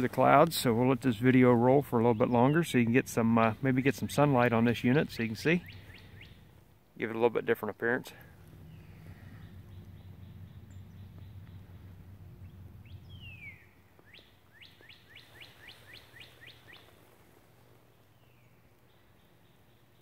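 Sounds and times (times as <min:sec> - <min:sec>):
low engine drone: 0:00.0 - 0:16.4
songbird singing: 0:00.0 - 0:20.0.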